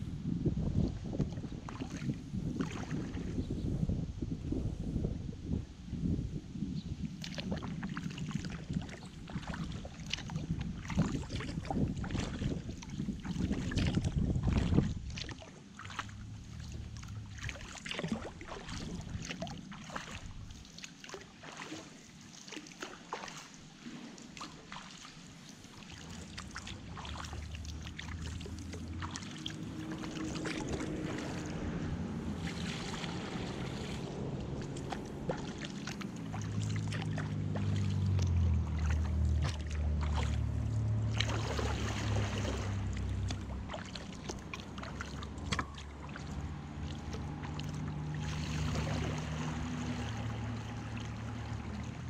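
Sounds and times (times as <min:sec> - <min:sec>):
wind rumble on microphone: 0:00.0 - 0:22.1, 0:23.8 - 0:52.0
paddle splashes and drips: 0:00.6 - 0:03.6, 0:06.8 - 0:52.0.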